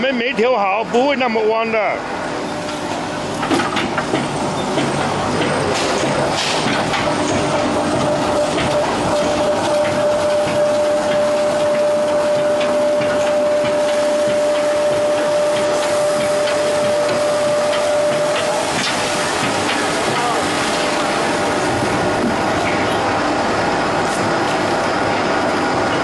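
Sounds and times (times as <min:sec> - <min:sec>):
lathe machine whining: 0:00.0 - 0:26.0.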